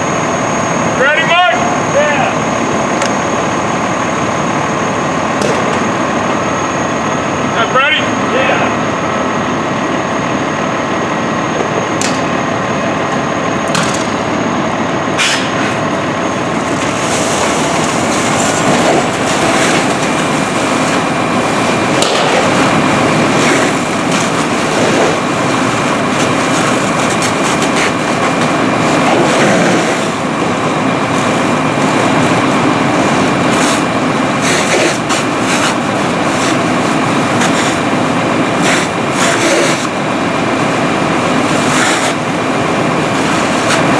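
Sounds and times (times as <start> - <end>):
engine and road noise: 0.0 - 43.9.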